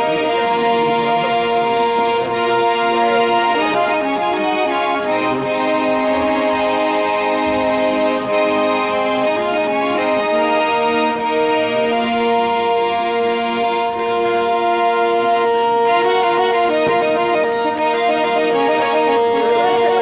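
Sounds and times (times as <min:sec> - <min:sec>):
button accordion playing dance tune: 0:00.0 - 0:20.0.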